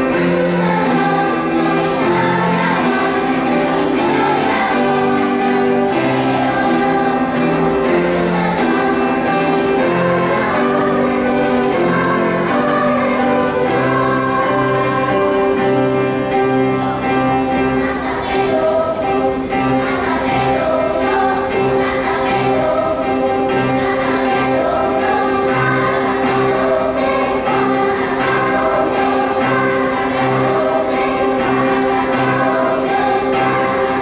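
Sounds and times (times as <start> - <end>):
children's choir singing: 0.0 - 34.0
instrumental accompaniment: 0.0 - 34.0.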